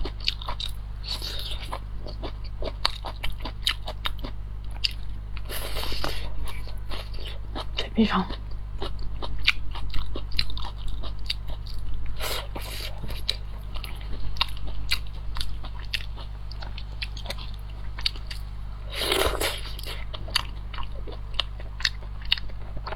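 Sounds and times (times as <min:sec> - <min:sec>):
person chewing crunchy food: 0:00.0 - 0:22.9.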